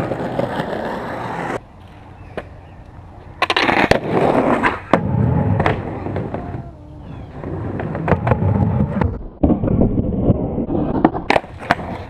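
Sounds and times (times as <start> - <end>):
skateboard clacking on ground: 0.0 - 9.9, 10.8 - 12.0
skateboard wheels rolling on pavement: 0.0 - 12.0.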